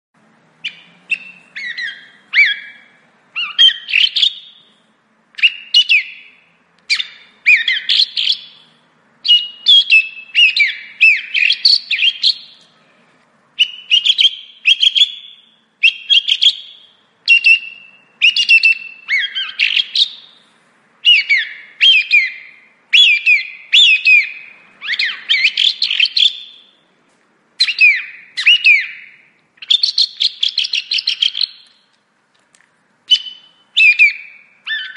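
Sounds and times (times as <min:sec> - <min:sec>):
song thrush singing: 0:00.6 - 0:12.9, 0:13.6 - 0:26.9, 0:27.6 - 0:32.0, 0:33.1 - 0:34.9.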